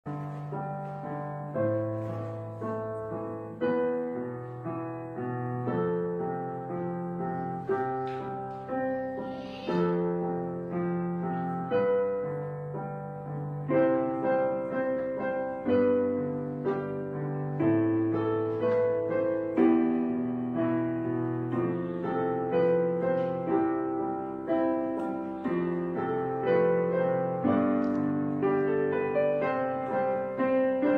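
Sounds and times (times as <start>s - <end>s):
soft piano chords: 0.0s - 30.9s.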